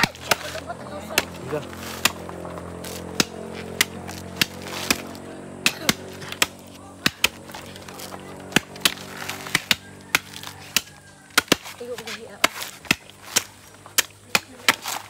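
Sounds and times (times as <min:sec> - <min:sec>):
coconut husk cracking: 0:00.0 - 0:15.0.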